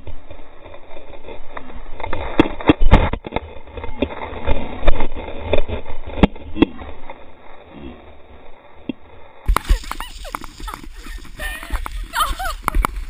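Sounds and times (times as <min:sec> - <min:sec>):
knocks and crunches on snow: 0:00.0 - 0:13.0.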